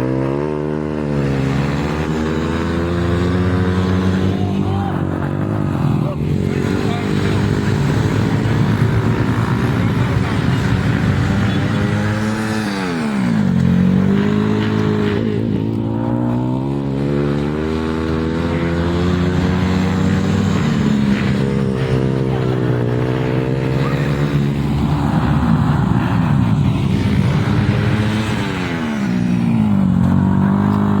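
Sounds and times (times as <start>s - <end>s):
racing motorcycle engines: 0.0s - 31.0s.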